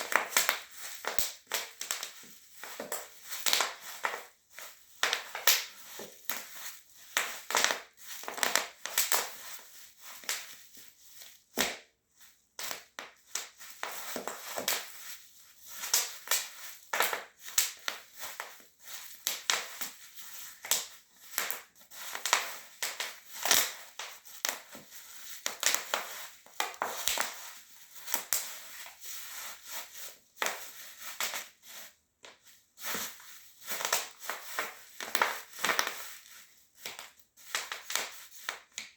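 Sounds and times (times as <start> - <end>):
bubble wrap popping under shoes: 0.0 - 38.9.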